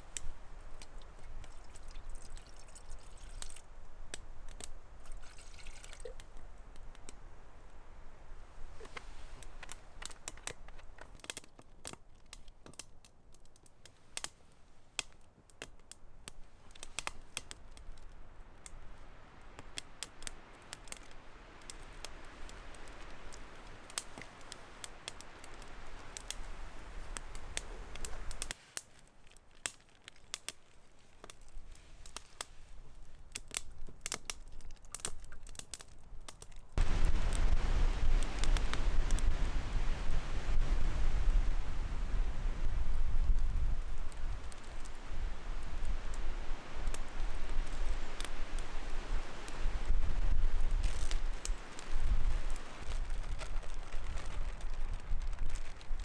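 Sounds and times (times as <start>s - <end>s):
soft hiss of flame: 0.0s - 56.0s
twig fire crackling: 0.0s - 56.0s.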